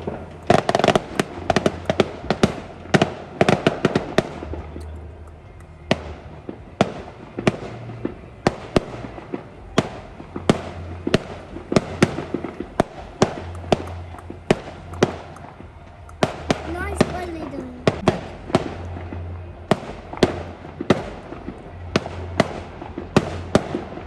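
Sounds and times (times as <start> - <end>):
fireworks bangs: 0.0 - 24.0
fireworks crackling and hiss: 0.0 - 24.0.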